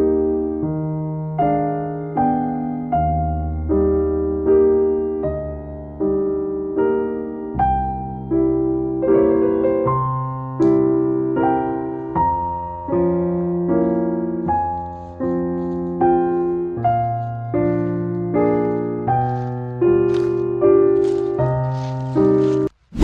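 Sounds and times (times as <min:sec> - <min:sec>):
slow gentle piano chords: 0:00.0 - 0:22.8.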